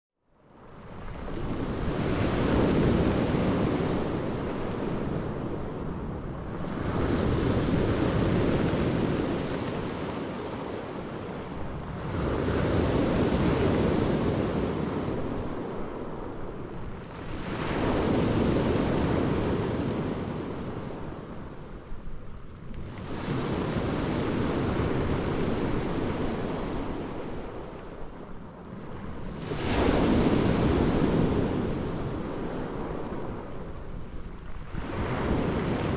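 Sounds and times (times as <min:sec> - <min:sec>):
waves breaking on shore: 0:00.6 - 0:35.9
wind buffeting microphone: 0:00.6 - 0:35.9.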